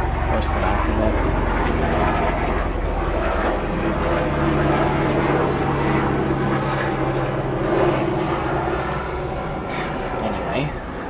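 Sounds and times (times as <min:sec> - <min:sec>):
mechanical drone with low hum: 0:00.0 - 0:11.0.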